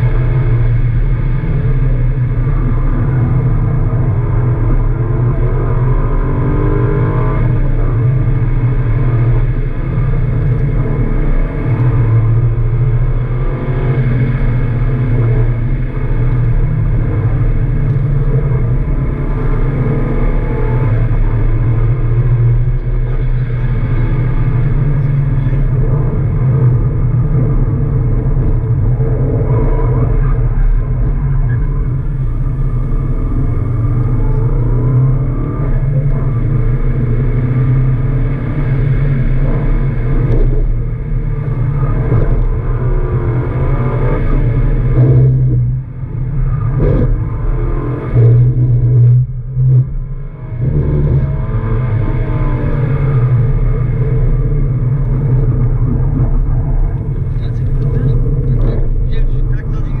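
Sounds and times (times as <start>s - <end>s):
car engine revving: 0.0s - 60.0s
road and drivetrain drone: 0.0s - 60.0s.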